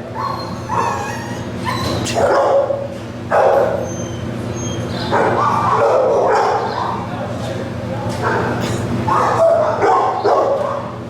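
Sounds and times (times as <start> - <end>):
dogs barking and yipping: 0.0 - 7.1, 8.2 - 11.0.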